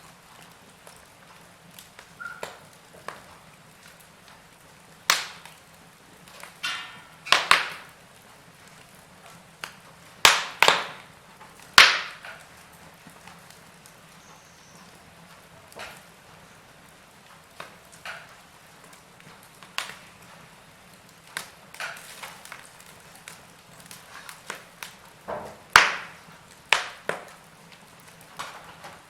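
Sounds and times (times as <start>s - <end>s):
wood fire crackling: 0.0s - 29.0s
sharp pops of fire: 0.4s - 29.0s.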